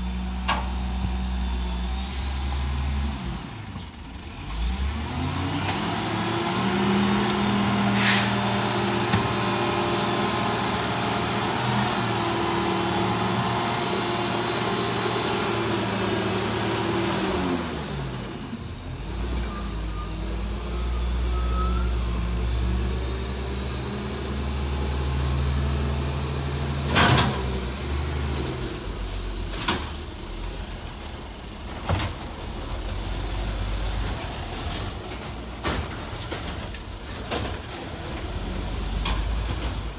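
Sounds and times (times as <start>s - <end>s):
garbage truck diesel engine whining: 0.0s - 39.9s.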